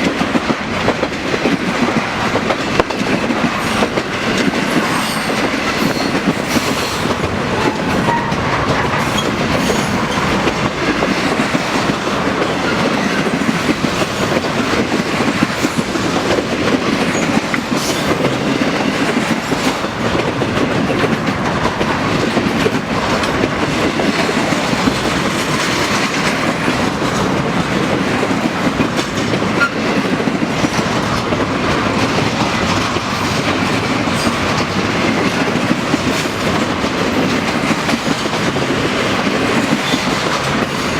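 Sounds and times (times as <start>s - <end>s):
train wheels clicking over rail joints: 0.0s - 40.9s.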